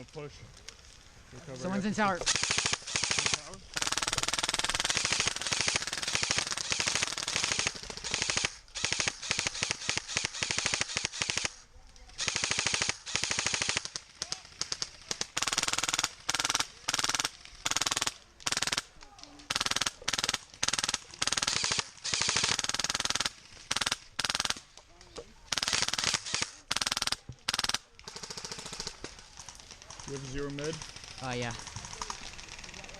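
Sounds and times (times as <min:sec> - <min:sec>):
airsoft gun bursts: 0:02.2 - 0:11.6, 0:12.2 - 0:24.7, 0:25.5 - 0:32.9.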